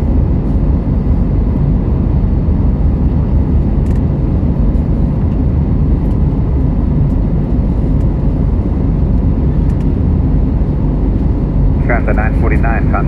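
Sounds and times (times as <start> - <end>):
jet engine rumble inside cabin: 0.0 - 13.0.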